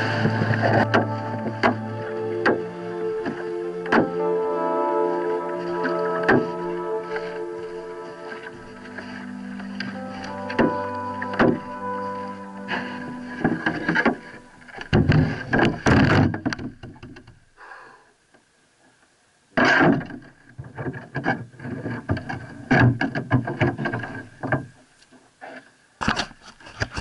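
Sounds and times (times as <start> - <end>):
kayak hull knocking and scraping: 0.0 - 17.5, 19.6 - 27.0.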